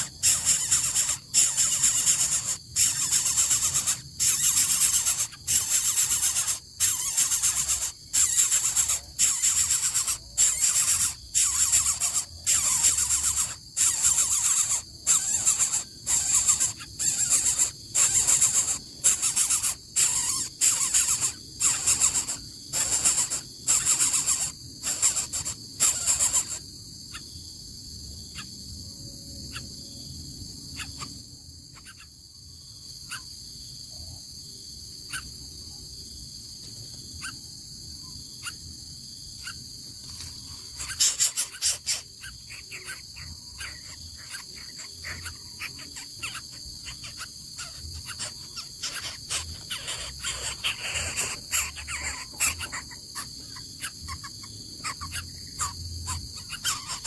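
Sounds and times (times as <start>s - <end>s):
bird calls: 0.0s - 27.3s, 30.7s - 31.2s, 31.8s - 32.1s, 39.4s - 57.0s
crickets chirping: 0.0s - 57.0s.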